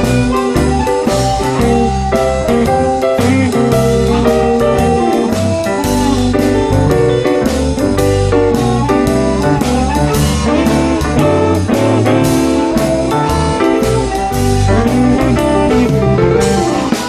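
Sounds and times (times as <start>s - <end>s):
bass: 0.0s - 17.0s
drums: 0.0s - 17.0s
electric guitar: 0.0s - 17.0s
keyboard: 0.0s - 17.0s.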